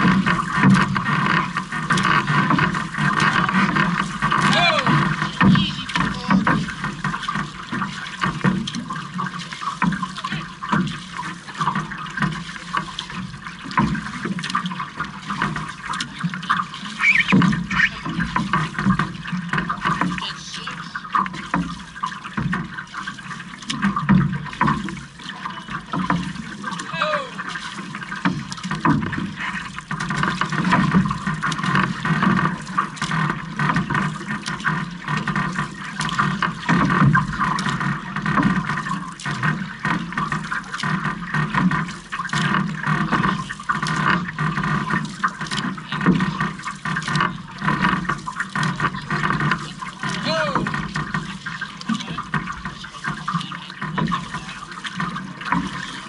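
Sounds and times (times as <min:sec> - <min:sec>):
paddles pulling through water: 0:00.0 - 0:56.0
water rushing along hull: 0:00.0 - 0:56.0.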